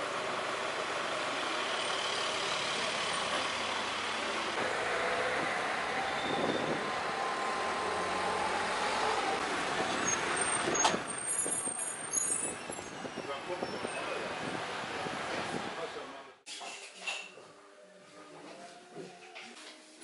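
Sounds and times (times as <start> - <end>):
road vehicles: 0.0 - 16.5.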